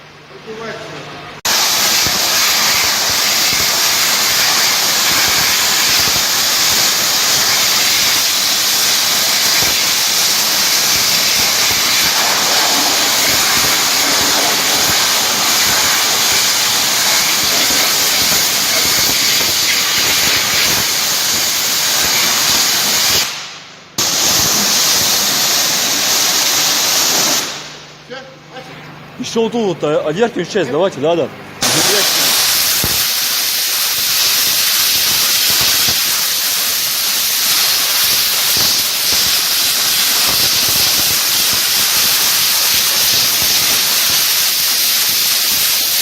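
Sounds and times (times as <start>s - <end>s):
pressure washer spraying water: 1.4s - 27.9s, 31.6s - 46.0s.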